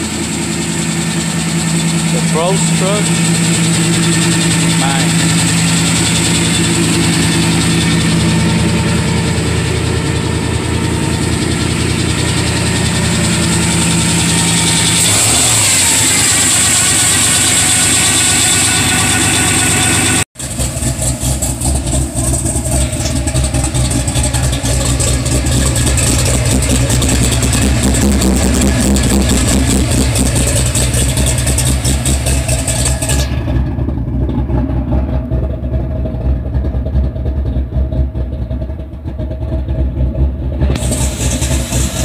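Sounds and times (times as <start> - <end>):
engine idling unevenly: 0.0 - 42.0
truck engine running: 0.0 - 42.0.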